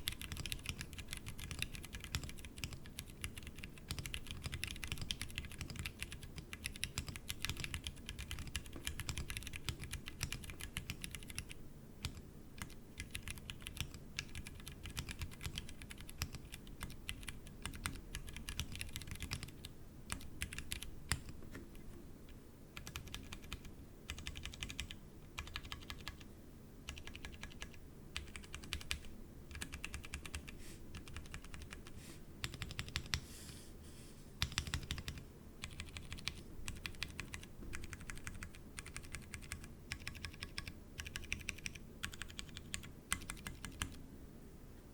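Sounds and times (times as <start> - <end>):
mechanical keyboard typing: 0.0 - 21.4, 22.8 - 26.3, 26.9 - 33.2, 34.4 - 44.0.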